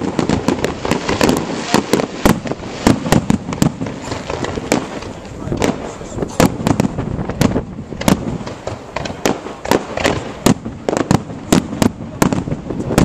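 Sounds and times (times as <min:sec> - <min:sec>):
fireworks bangs: 0:00.0 - 0:13.0
fireworks crackle: 0:00.0 - 0:13.0.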